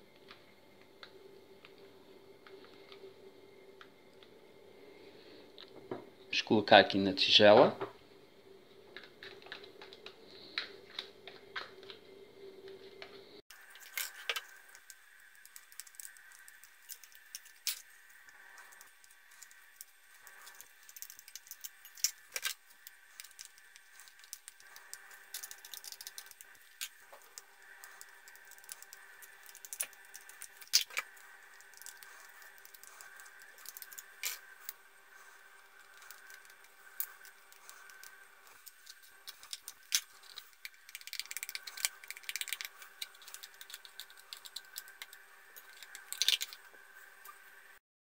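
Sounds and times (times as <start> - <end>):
faint hum: 0.0 - 47.8.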